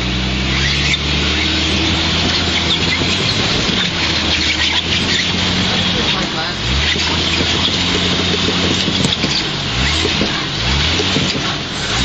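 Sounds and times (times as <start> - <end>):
car engine running: 0.0 - 12.0
tyres scraping on rock: 0.4 - 12.0.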